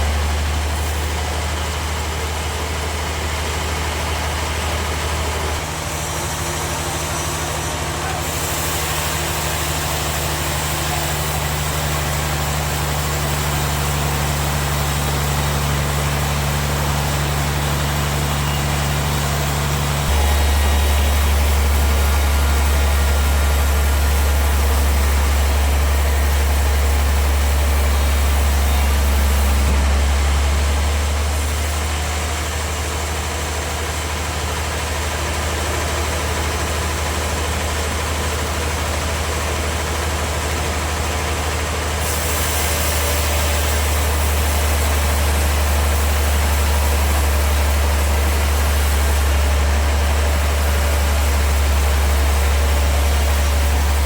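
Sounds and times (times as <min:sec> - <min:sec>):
sawmill machinery hum: 0:00.0 - 0:54.0.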